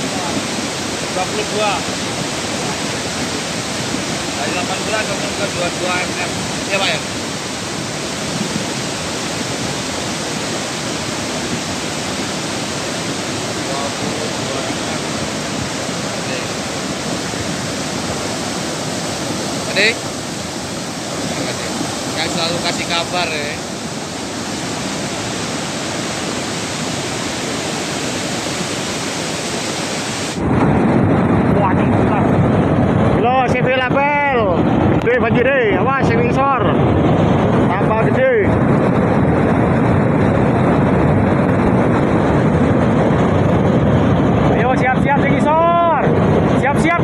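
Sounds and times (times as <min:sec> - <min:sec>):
mudflow rushing down river channel: 0:00.0 - 0:47.0.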